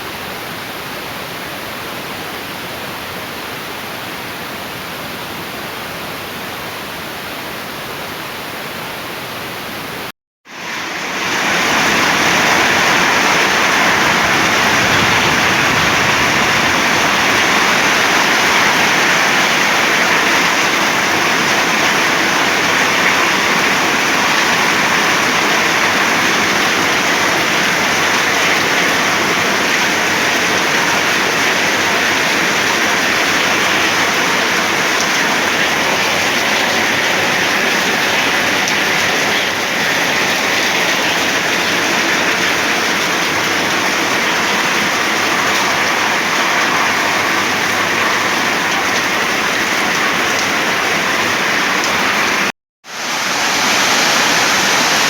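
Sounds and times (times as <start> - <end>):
heavy rain pouring: 6.7 - 55.0.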